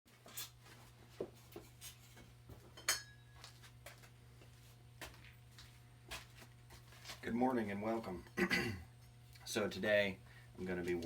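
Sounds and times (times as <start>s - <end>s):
steady low hum: 0.8s - 11.0s.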